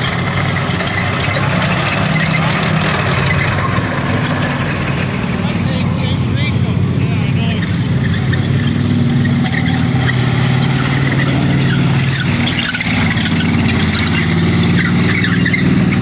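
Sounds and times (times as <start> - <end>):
tank engine running loud: 0.0 - 16.0
tracks rolling on pavement: 0.0 - 16.0.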